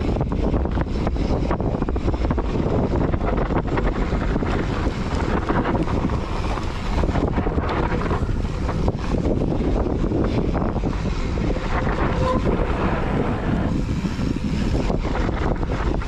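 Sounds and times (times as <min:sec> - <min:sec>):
bike rattling and knocking: 0:00.0 - 0:16.0
tyres rumbling on dirt trail: 0:00.0 - 0:16.0
wind rushing over microphone: 0:00.0 - 0:16.0.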